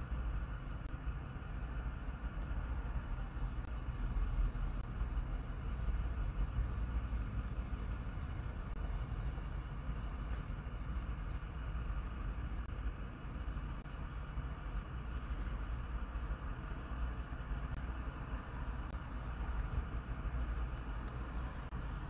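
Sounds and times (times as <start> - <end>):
low rumble with faint hiss: 0.0 - 22.0.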